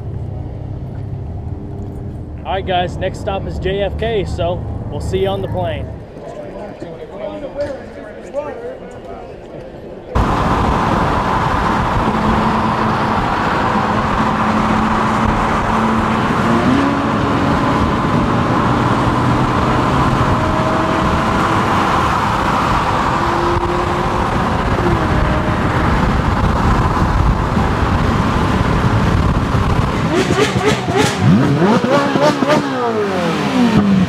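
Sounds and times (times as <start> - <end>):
engine hum: 0.0 - 6.8, 10.1 - 34.0
road and wind noise: 0.0 - 34.0.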